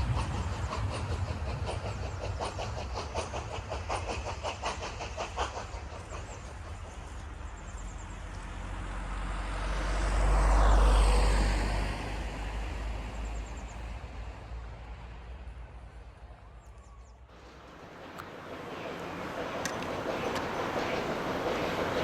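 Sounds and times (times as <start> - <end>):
steam train passing by: 0.0 - 22.0.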